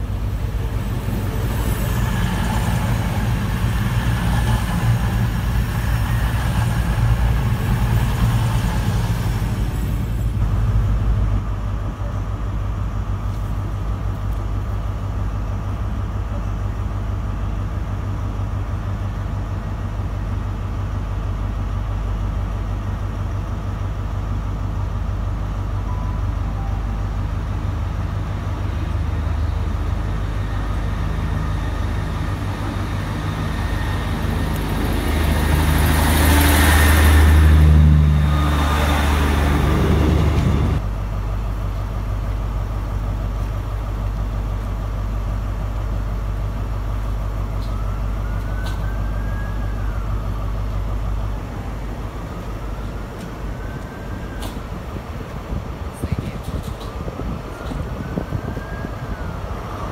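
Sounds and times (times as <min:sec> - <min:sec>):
diesel train passing: 0:00.0 - 0:59.9
low diesel rumble: 0:00.0 - 0:59.9.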